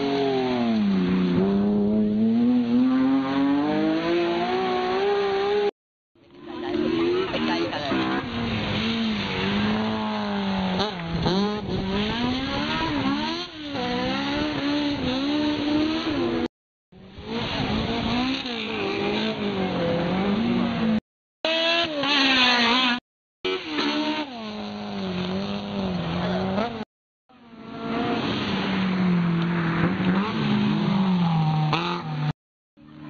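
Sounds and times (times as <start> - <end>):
rally car engines at full throttle: 0.0 - 33.0.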